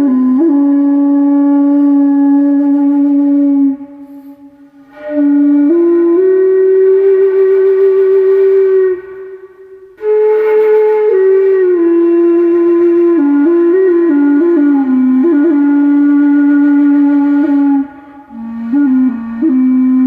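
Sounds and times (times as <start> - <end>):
flute solo melody: 0.0 - 20.0.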